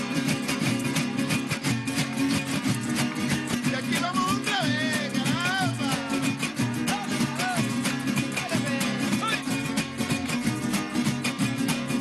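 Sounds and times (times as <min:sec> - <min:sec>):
guitars strummed: 0:00.0 - 0:12.0.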